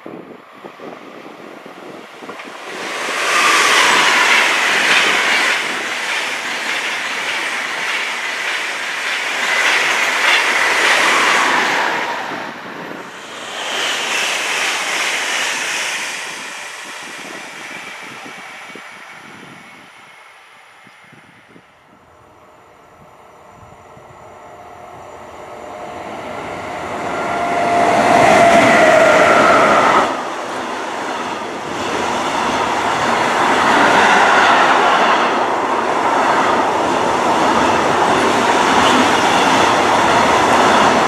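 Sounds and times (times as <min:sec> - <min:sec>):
high-speed train passing: 0:00.0 - 0:41.0.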